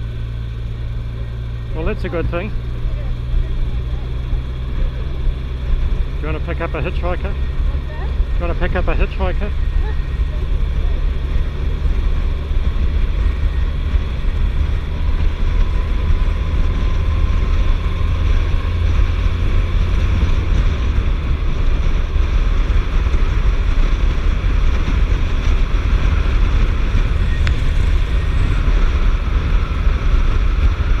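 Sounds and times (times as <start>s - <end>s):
motorcycle running: 0.0s - 31.0s
wind rumble on microphone: 0.0s - 31.0s.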